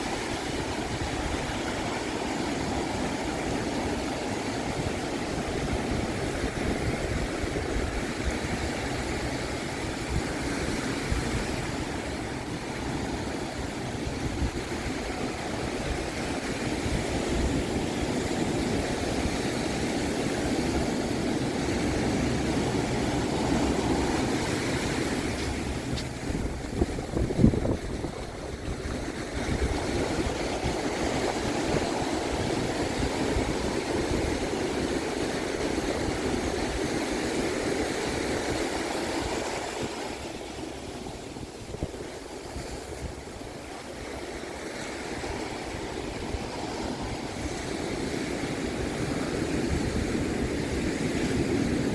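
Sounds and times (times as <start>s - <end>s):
ocean surf breaking on beach: 0.0s - 51.9s
wind: 0.0s - 51.9s.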